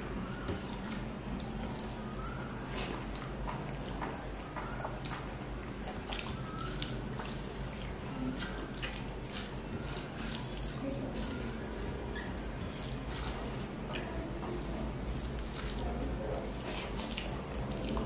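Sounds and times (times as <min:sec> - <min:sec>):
fingers mixing food: 0:00.0 - 0:18.0
chewing: 0:00.4 - 0:18.0.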